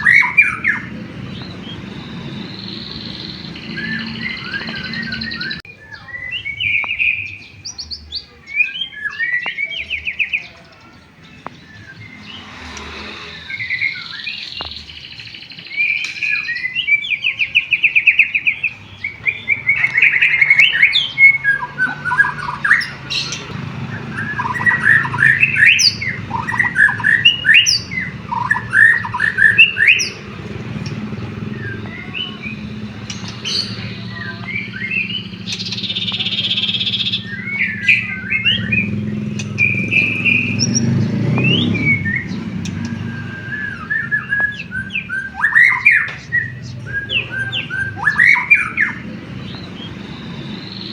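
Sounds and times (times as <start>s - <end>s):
bird singing trills and chirps: 0.0s - 50.9s.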